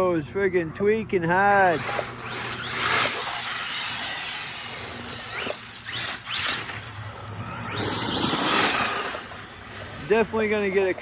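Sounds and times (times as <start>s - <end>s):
rc truck electric motor whining: 1.4s - 11.0s.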